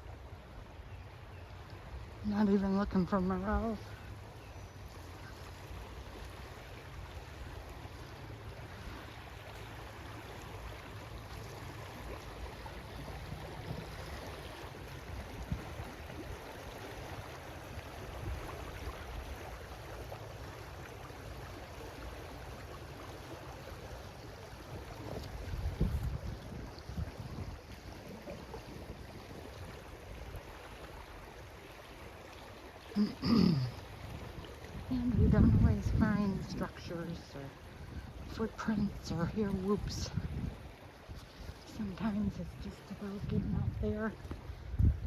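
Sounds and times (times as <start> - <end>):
river water rushing: 1.5 - 43.2.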